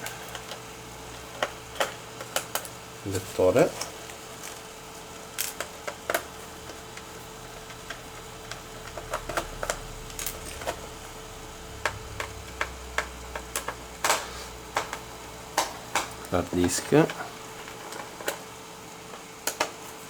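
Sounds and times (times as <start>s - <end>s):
small parts clicking and tapping: 0.0s - 4.7s, 5.3s - 10.9s, 11.7s - 18.5s, 19.1s - 19.9s
faint steady hum: 0.0s - 20.0s.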